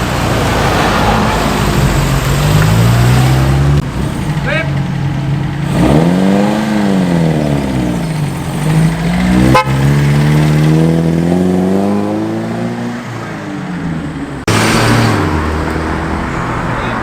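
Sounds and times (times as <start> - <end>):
cars driving past: 0.0 - 17.0
road noise: 0.0 - 17.0.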